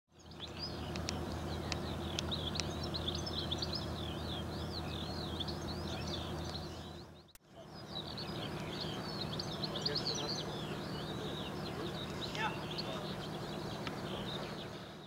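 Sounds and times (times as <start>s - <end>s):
low steady hum: 0.1s - 15.0s
small birds twittering: 0.1s - 15.0s.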